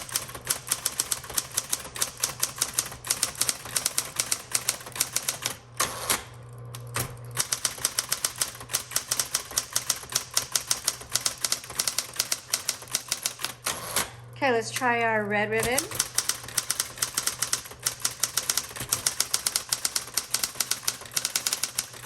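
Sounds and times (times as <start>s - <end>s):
electric typewriter keystrokes: 0.0s - 15.0s, 15.6s - 22.0s
typewriter motor humming: 0.0s - 15.0s, 15.6s - 22.0s.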